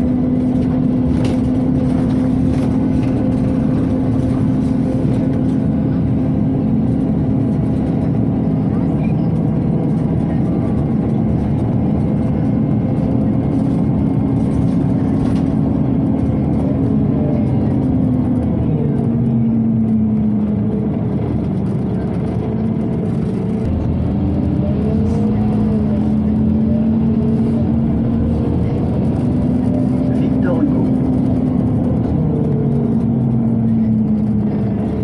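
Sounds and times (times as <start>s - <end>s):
bus engine running: 0.0s - 35.0s
drivetrain whine: 0.0s - 35.0s.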